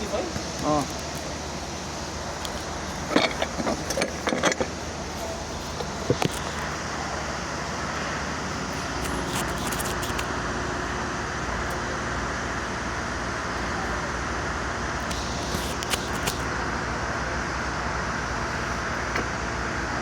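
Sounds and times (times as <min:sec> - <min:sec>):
vehicle engine rumble with hiss: 0:00.0 - 0:20.0.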